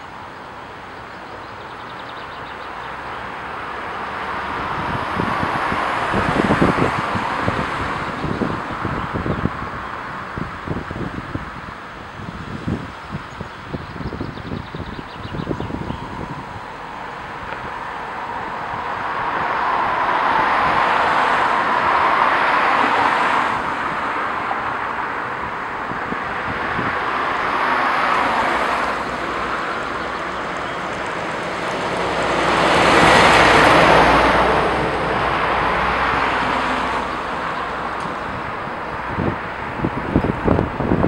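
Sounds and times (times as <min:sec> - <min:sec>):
cars passing: 0:00.0 - 0:41.0
heavy vehicle rumble: 0:00.0 - 0:41.0
wind buffeting microphone: 0:01.3 - 0:41.0.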